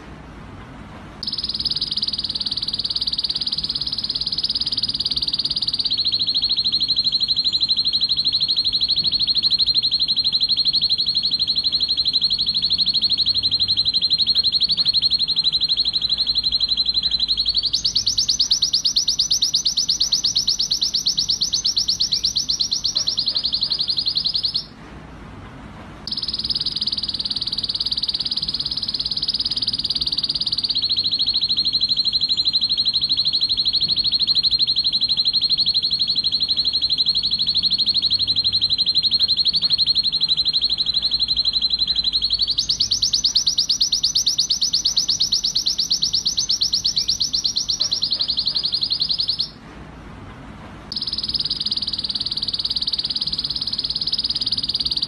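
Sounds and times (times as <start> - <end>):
canary singing rolling trills: 1.2 - 24.8, 26.1 - 49.6, 50.9 - 55.0.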